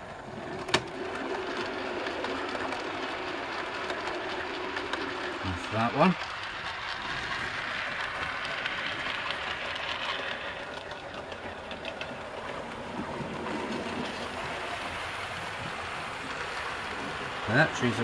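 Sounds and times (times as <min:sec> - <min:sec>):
model train whirring: 0:00.0 - 0:18.0
clicks over rail joints: 0:00.3 - 0:18.0.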